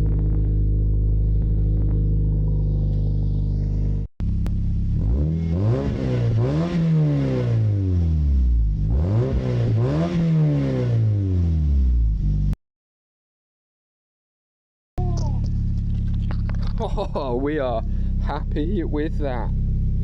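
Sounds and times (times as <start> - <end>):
car engine idling and revving: 0.0 - 12.6, 15.0 - 20.0.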